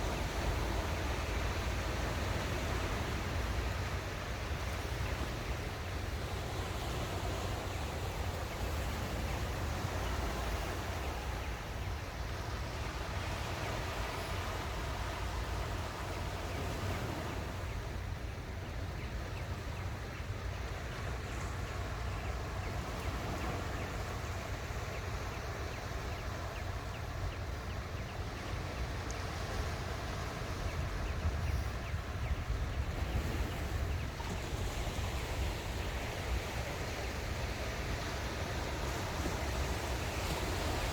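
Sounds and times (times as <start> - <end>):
ocean waves washing onto shore: 0.0 - 40.9
wind rumble on microphone: 0.0 - 40.9.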